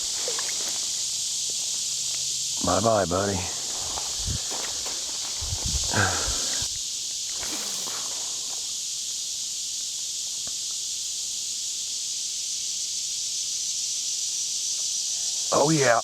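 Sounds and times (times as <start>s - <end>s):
insect chorus hissing: 0.0s - 16.0s.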